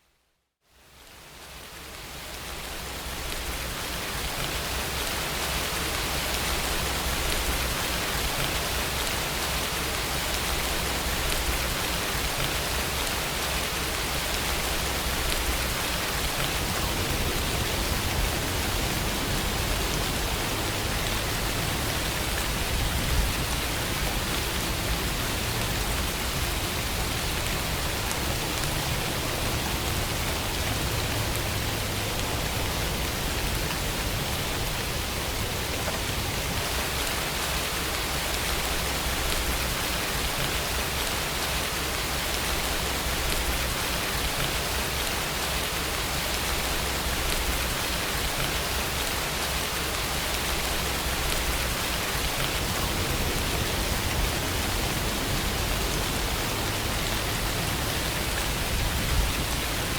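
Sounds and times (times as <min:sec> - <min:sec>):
steady rainfall hiss: 0:00.6 - 0:59.9.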